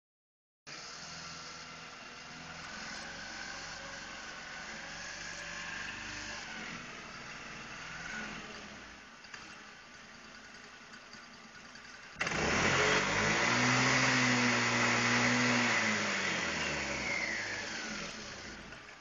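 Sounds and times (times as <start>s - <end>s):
small engine starting and revving: 0.7s - 9.8s, 12.1s - 19.0s.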